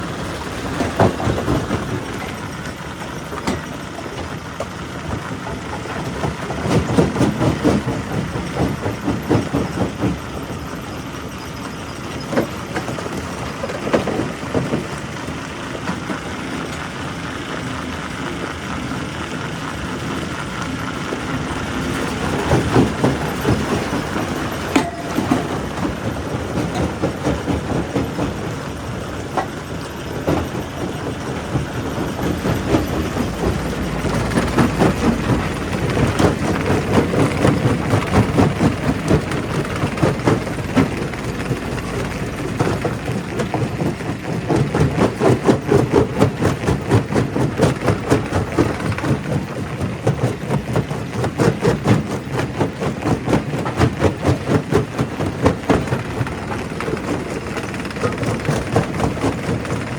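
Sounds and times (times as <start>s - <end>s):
rock crusher running: 0.0s - 59.9s.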